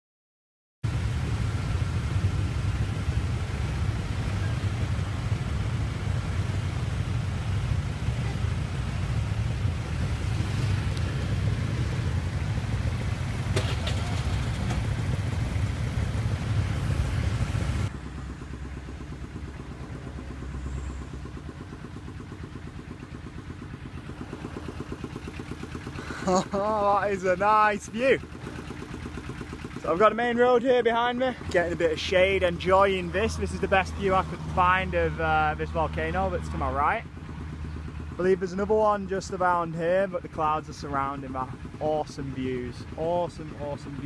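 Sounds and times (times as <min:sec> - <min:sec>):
dense traffic engines rumbling: 0:00.8 - 0:44.0
distant traffic hum: 0:00.8 - 0:44.0.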